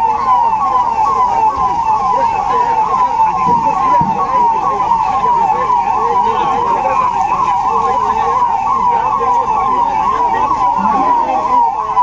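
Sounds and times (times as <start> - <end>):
electronic siren yelping: 0.0 - 12.0.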